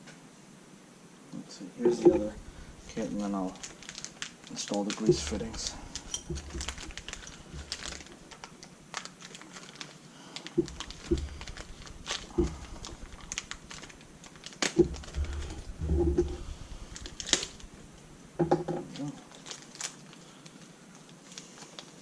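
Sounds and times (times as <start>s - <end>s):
plastic bag rustling: 1.9s - 22.0s.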